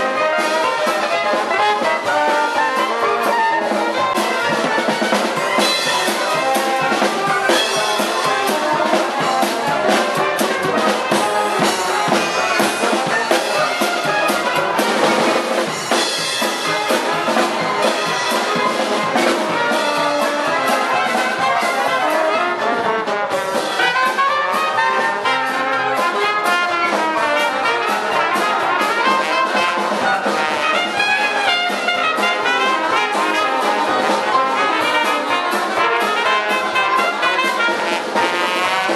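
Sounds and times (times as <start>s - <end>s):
drum kit and cymbals: 0.0s - 38.9s
jazz band playing: 0.0s - 38.9s
trombone: 0.0s - 38.9s
trumpet: 0.0s - 38.9s.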